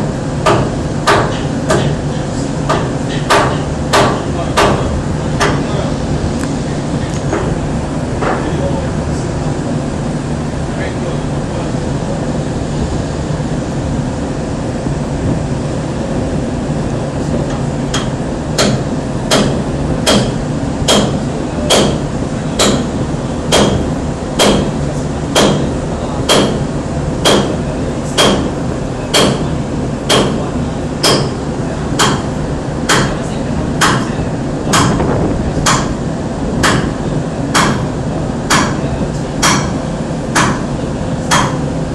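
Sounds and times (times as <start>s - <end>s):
boat engine rumbling: 0.0s - 41.9s.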